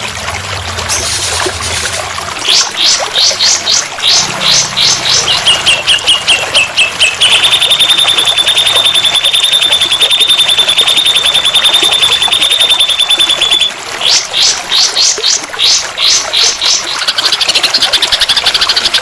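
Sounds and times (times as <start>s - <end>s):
high-pitched bird trill: 2.4s - 19.0s
recorded songbird song: 2.4s - 19.0s.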